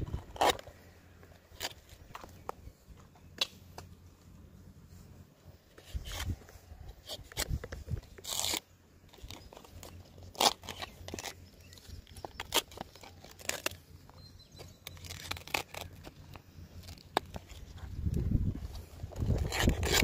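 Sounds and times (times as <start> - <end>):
sharp cracks snaps and scrapes: 0.0 - 4.0, 5.7 - 20.0.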